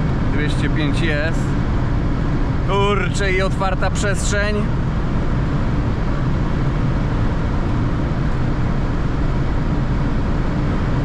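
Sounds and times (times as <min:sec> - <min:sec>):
car engine hum: 0:00.0 - 0:11.0
wind and road noise: 0:00.0 - 0:11.0.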